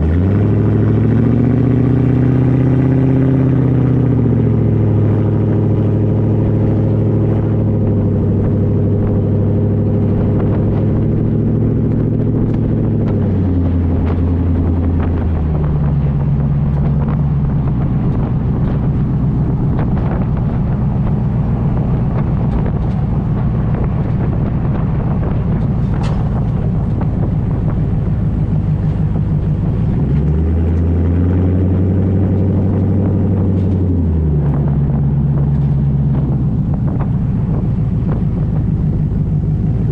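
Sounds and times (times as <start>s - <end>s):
loud vehicle engine revving: 0.0s - 39.9s.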